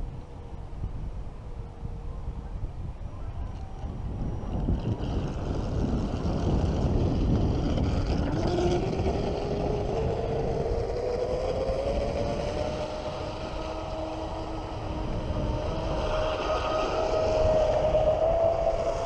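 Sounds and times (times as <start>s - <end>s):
electric motor whine of rc boat: 0.0s - 19.0s
wind rumble on microphone: 0.0s - 19.0s.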